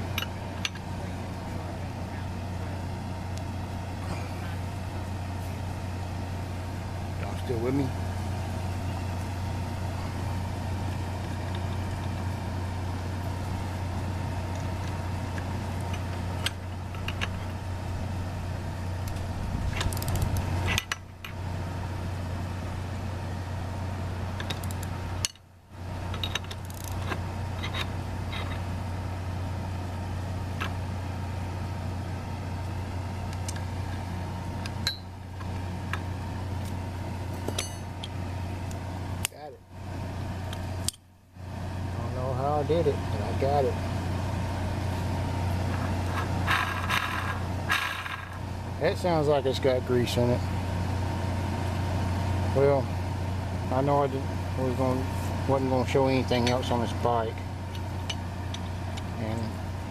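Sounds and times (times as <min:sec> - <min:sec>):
low machine hum: 0:00.0 - 0:59.9.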